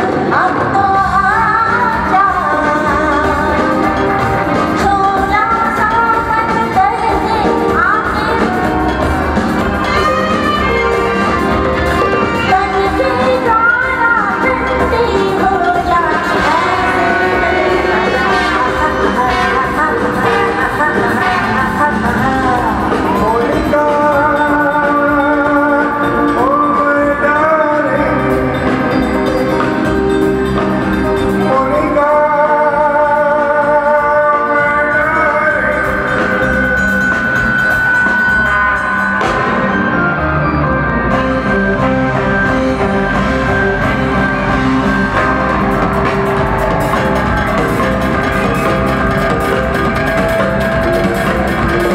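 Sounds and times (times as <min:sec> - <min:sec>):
live band with singing: 0:00.0 - 0:51.9.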